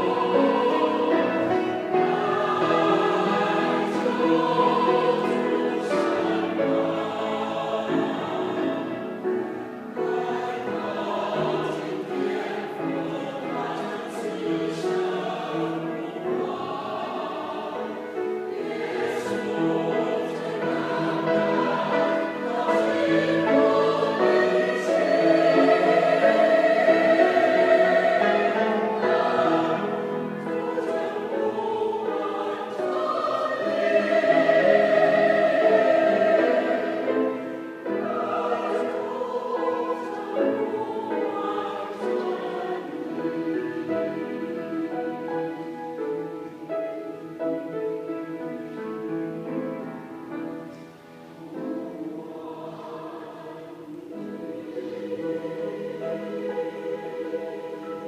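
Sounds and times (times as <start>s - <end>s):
choir singing a hymn: 0.0s - 58.0s
piano accompaniment: 0.0s - 58.0s.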